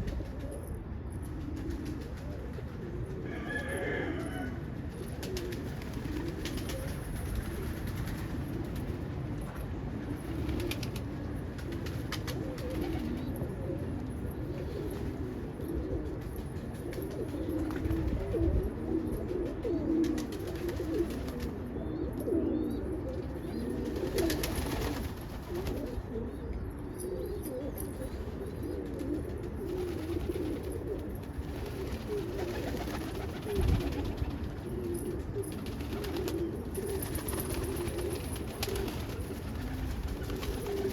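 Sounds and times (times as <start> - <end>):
pigeons cooing: 0.0 - 9.2, 10.0 - 40.9.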